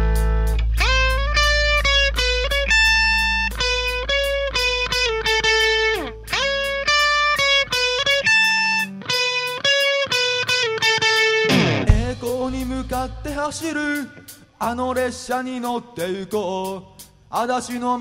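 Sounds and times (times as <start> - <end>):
bass and drums: 0.0 - 9.7, 11.4 - 18.0
distorted electric guitar lead: 0.0 - 14.5.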